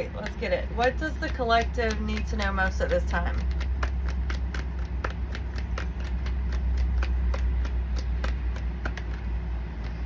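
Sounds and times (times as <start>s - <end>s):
cards being shuffled: 1.1s - 10.0s.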